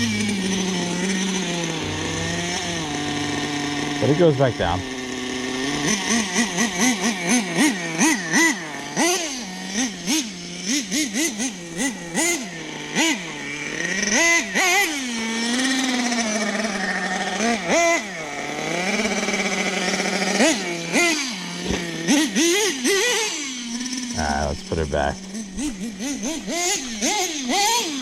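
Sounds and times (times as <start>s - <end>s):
small nitro engine revving: 0.0s - 28.0s.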